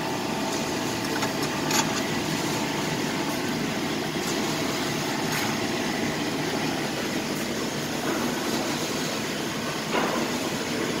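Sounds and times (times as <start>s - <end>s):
laser cutting machine running: 0.0s - 11.0s.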